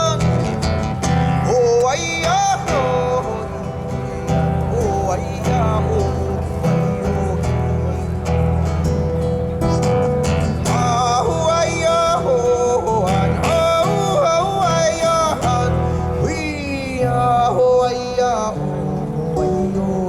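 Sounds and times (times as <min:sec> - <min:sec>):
guitar: 0:00.0 - 0:20.0
person singing: 0:00.0 - 0:20.0.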